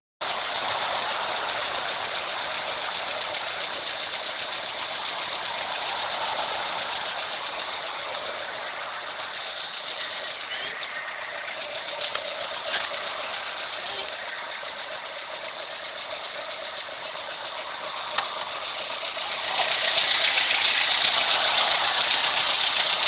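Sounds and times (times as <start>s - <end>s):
car engine idling with ticking: 0.2s - 23.0s.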